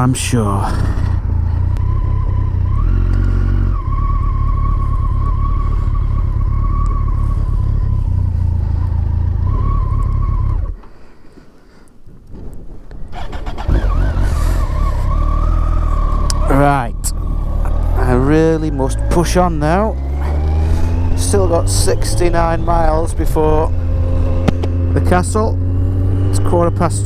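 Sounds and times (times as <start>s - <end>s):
motorcycle engine running: 0.0s - 10.8s, 13.1s - 27.0s.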